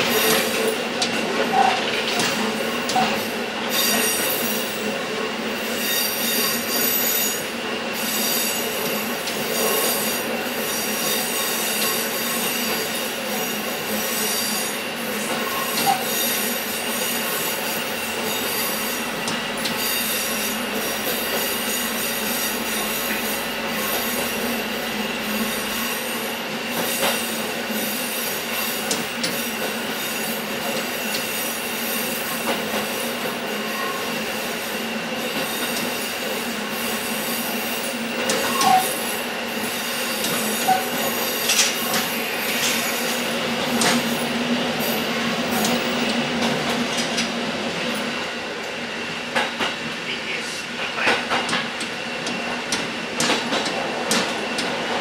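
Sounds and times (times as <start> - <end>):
diesel railcar running noise: 0.0 - 55.0.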